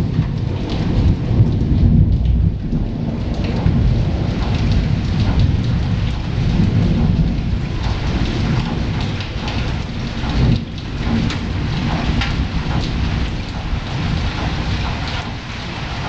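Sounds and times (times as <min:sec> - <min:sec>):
heavy rain falling: 0:00.0 - 0:16.0
low rumble of thunder: 0:00.0 - 0:16.0.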